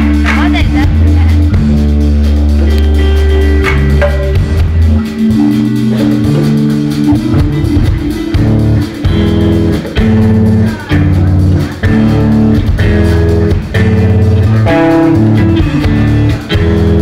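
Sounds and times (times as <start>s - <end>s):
drum kit: 0.0s - 17.0s
electric guitars: 0.0s - 17.0s.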